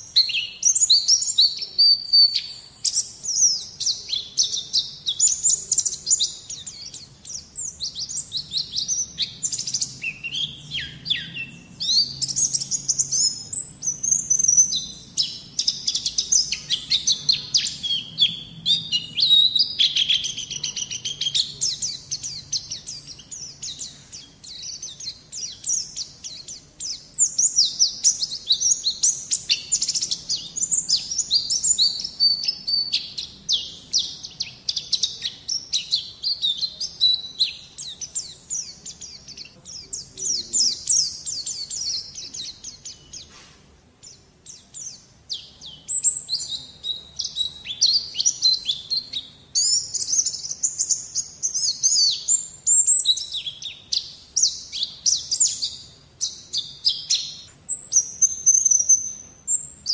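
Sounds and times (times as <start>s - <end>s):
bird twittering song: 0.0s - 59.9s.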